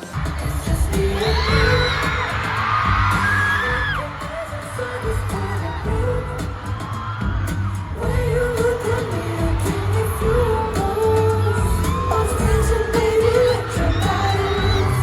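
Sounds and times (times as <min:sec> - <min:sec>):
heavy bass and drum track: 0:00.0 - 0:15.0
singers performing pop song: 0:00.0 - 0:15.0.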